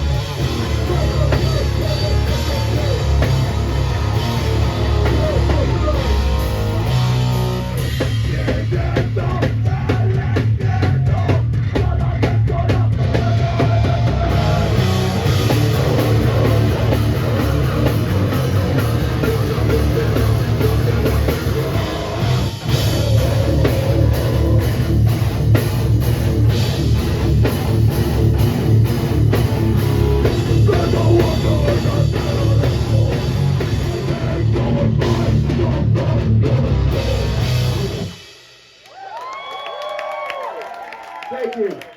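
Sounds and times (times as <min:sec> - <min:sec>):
bass guitar: 0:00.0 - 0:38.4
distorted guitars: 0:00.0 - 0:38.6
pounding drum kit: 0:00.0 - 0:39.4.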